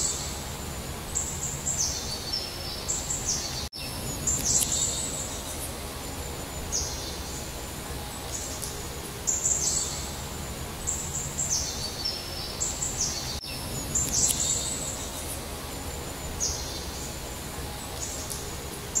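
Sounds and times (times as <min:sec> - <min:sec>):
low background noise: 0:00.0 - 0:19.0
songbirds singing: 0:00.0 - 0:19.0.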